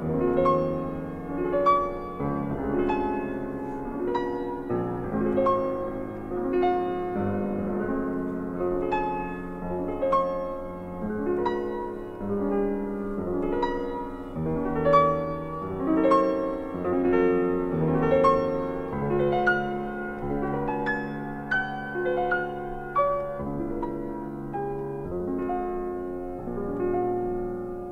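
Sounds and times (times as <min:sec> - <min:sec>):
gentle solo piano: 0:00.0 - 0:27.9.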